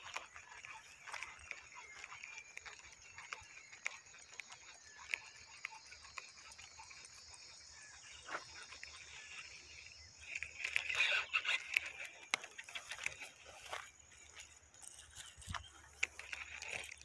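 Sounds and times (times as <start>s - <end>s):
insects buzzing: 0.0s - 17.0s
small clicks: 0.0s - 17.0s.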